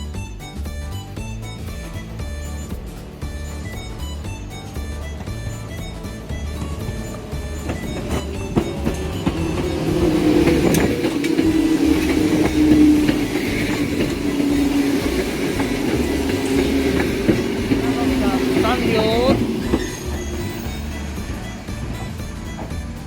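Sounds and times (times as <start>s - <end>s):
electric train hum: 0.0s - 23.0s
wheels clicking on rails: 0.0s - 23.0s.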